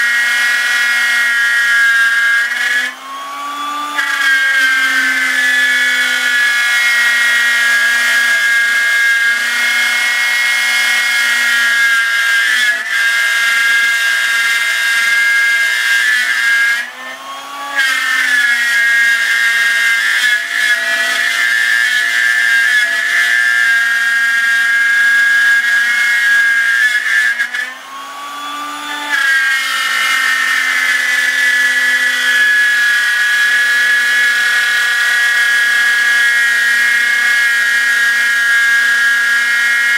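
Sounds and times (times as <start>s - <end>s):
router motor whine cutting: 0.0s - 39.9s.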